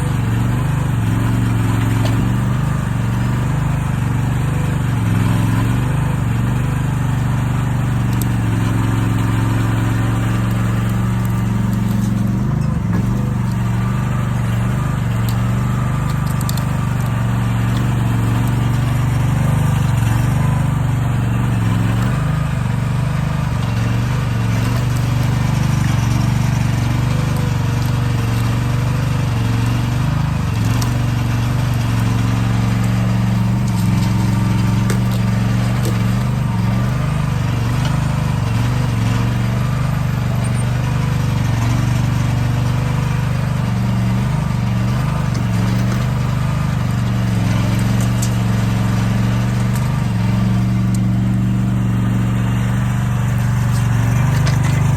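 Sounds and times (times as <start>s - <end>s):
heavy equipment engine droning: 0.0s - 54.9s.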